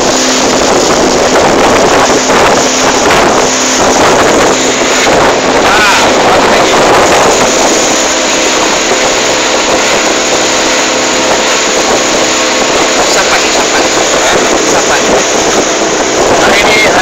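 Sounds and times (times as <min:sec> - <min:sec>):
boat engine humming: 0:00.0 - 0:17.0
water rushing along hull: 0:00.0 - 0:17.0.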